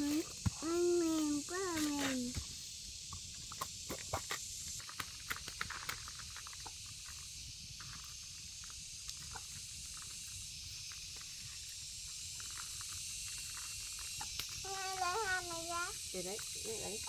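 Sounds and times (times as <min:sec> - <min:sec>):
outdoor ambience hiss: 0:00.0 - 0:17.0.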